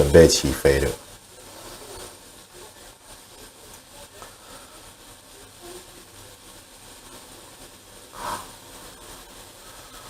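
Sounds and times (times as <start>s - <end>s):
pot hissing on stove: 0.0s - 10.0s.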